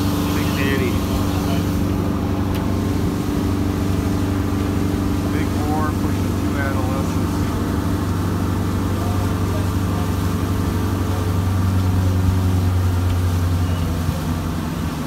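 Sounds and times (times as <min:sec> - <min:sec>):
boat engine humming: 0:00.0 - 0:15.0
wind and water hiss: 0:00.0 - 0:15.0.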